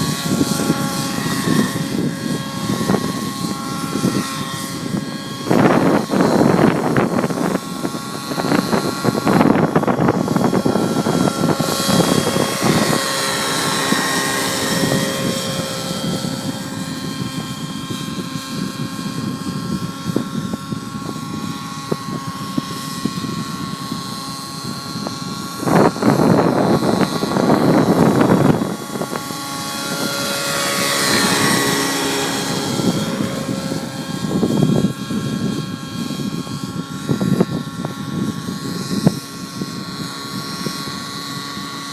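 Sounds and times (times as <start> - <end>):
model helicopter engine and rotor: 0.0 - 41.9
wind buffeting microphone: 0.0 - 41.9.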